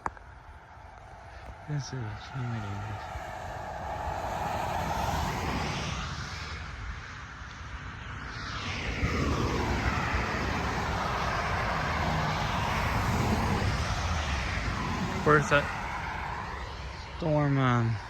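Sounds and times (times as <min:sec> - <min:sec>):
car driving past: 0:00.4 - 0:07.4, 0:08.0 - 0:17.2.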